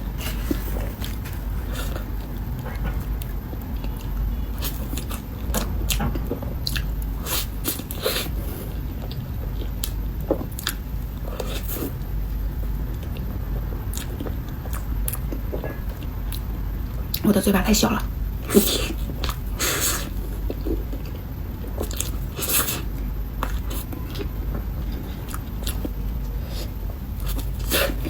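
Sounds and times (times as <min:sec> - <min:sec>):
chewing soft cake: 0:00.0 - 0:17.3, 0:18.0 - 0:28.0.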